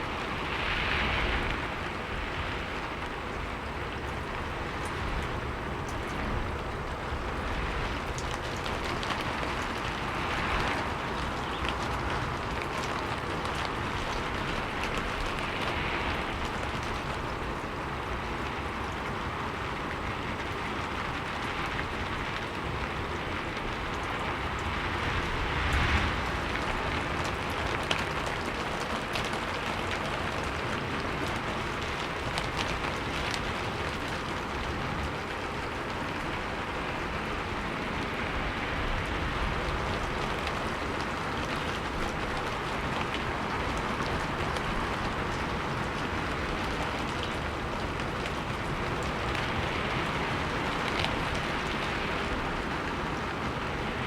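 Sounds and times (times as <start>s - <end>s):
raindrops ticking on a surface: 0.0s - 54.0s.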